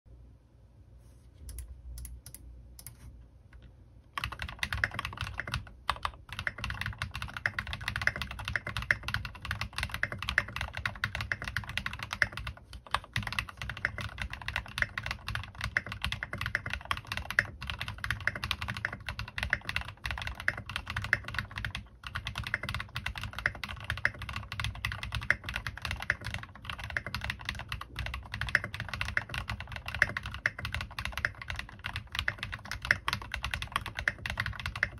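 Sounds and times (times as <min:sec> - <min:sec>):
fast mechanical keyboard typing: 0:04.1 - 0:34.9.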